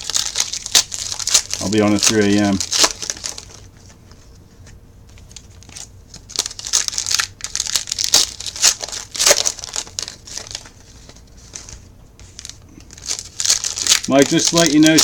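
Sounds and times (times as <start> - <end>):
wrappers crinkling and tearing: 0.0 - 3.7, 5.1 - 15.0.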